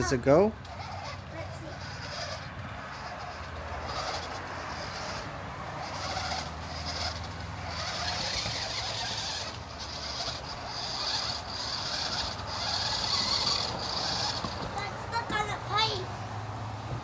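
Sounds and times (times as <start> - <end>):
toy car motors whirring: 0.0 - 16.1.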